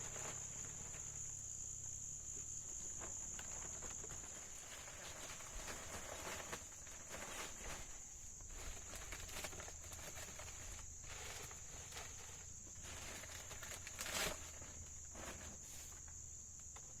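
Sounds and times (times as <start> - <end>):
crickets chirring: 0.0 - 17.0
rustling: 0.0 - 17.0.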